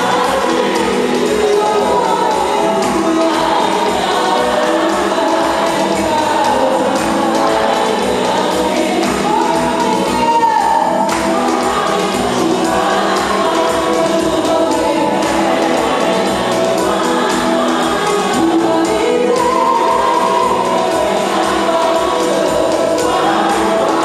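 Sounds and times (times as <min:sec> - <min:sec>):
congregation singing gospel song: 0:00.0 - 0:24.0
steady beat: 0:00.0 - 0:24.0
woman singing into a microphone: 0:00.0 - 0:24.0.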